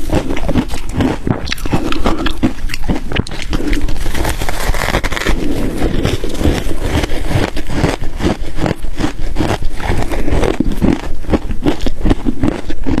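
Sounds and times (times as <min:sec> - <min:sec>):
chewing ice cubes crunching: 0:00.0 - 0:13.0.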